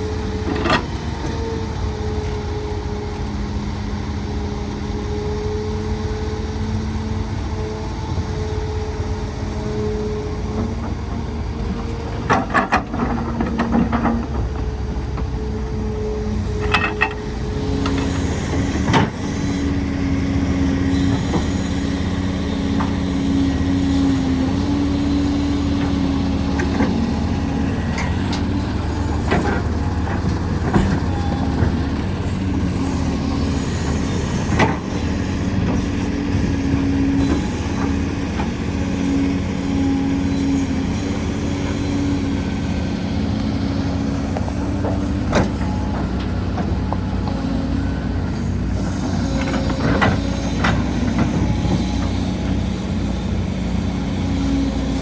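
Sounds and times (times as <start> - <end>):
excavator engine drone: 0.0 - 55.0.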